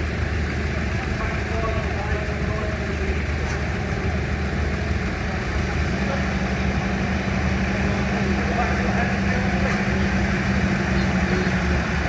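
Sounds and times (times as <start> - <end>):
higher engine hum: 0.0 - 12.0
vehicle engine running: 0.0 - 12.0.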